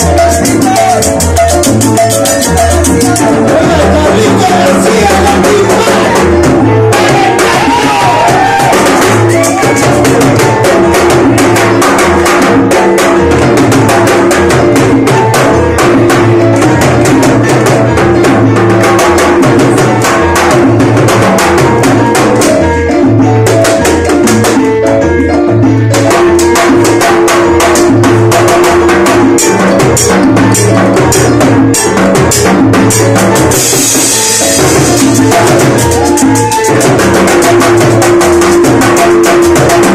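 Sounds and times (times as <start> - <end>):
salsa band playing: 0.0 - 39.9
timbales and congas: 0.0 - 39.9
upright bass line: 0.0 - 39.9.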